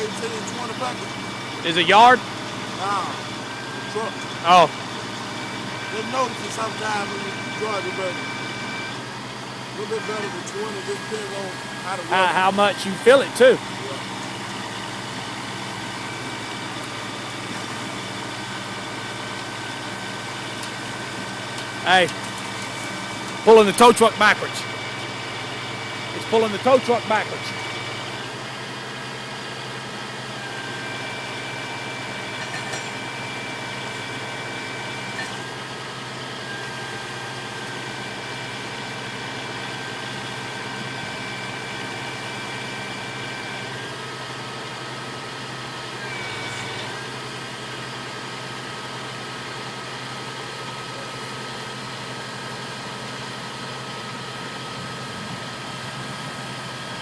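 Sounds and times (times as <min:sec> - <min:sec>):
heavy truck engine running: 0:00.0 - 0:57.0.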